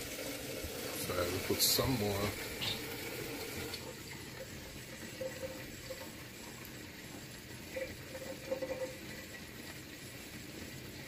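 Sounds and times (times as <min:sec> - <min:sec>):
pot simmering on stove: 0:00.0 - 0:11.0.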